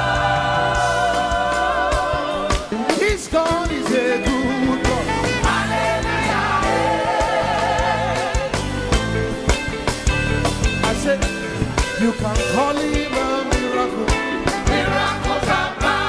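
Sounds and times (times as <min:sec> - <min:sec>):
bass and drums: 0:00.0 - 0:16.0.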